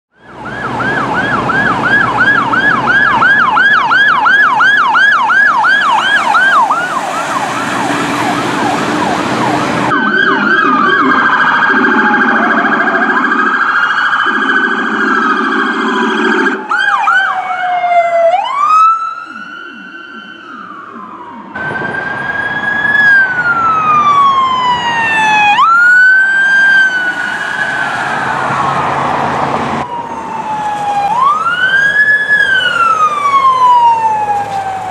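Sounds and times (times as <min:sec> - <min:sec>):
low steady siren tones: 0:00.1 - 0:34.9
police siren wail: 0:00.1 - 0:34.9
police siren yelp: 0:00.2 - 0:34.9.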